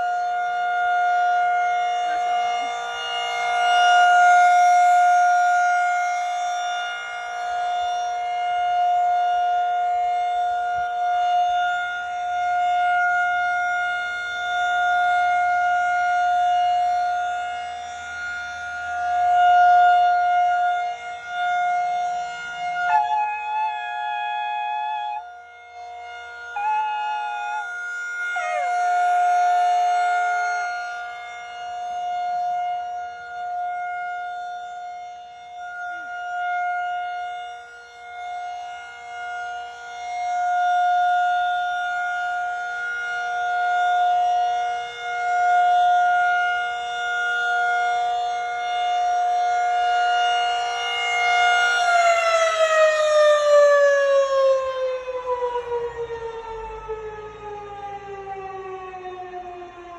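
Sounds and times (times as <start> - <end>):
rotating warning siren: 0.0 - 59.9.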